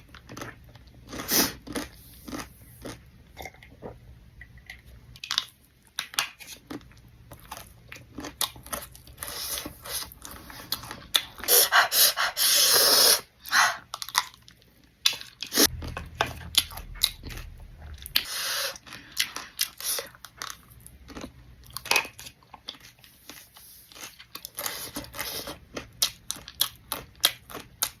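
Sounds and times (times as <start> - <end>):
chewing crunchy snack: 0.0 - 4.0, 4.7 - 11.6, 13.4 - 28.0.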